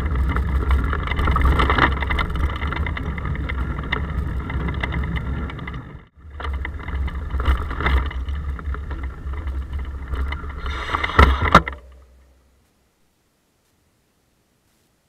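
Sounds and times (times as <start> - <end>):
small rattles and clicks: 0.0 - 12.3
road vibration rumble: 0.0 - 12.7.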